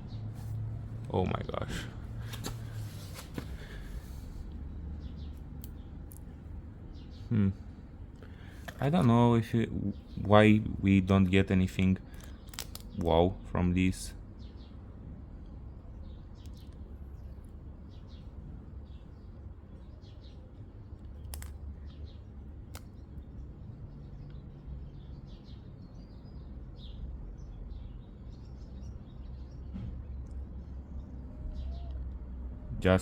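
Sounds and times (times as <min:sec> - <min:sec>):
low steady rumble: 0:00.0 - 0:29.2
small birds chirping: 0:00.0 - 0:33.0.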